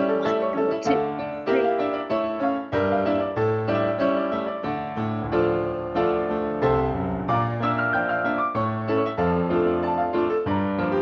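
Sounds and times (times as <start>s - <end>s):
piano playing chords: 0.0s - 11.0s.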